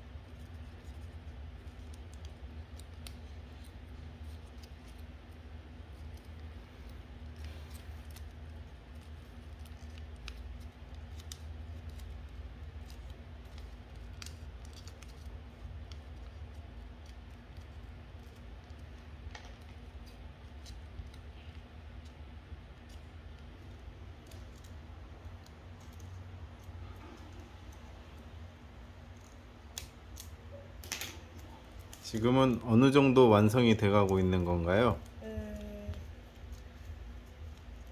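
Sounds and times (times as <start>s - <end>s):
steady low hum: 0.0s - 37.9s
paper crinkling while folded: 0.1s - 37.9s.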